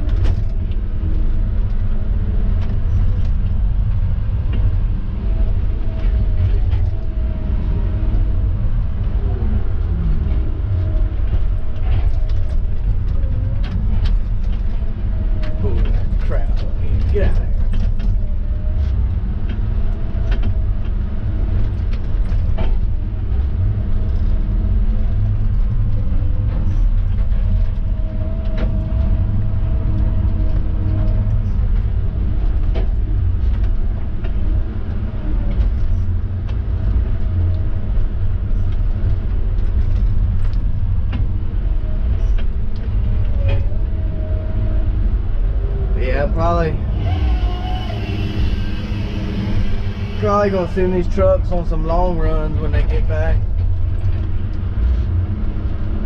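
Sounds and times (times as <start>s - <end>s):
diesel engine rumbling: 0.0s - 56.0s
faint whine: 0.0s - 56.0s
machinery clicks and creaks: 0.0s - 56.0s.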